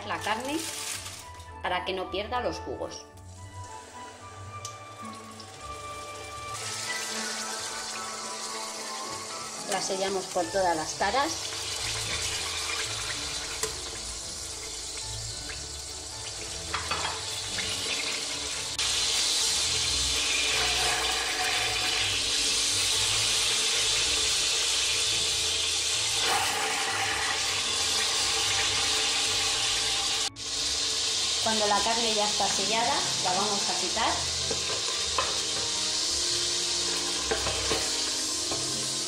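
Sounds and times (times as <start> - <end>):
meat sizzling in hot oil: 0.0 - 1.4, 3.1 - 39.0.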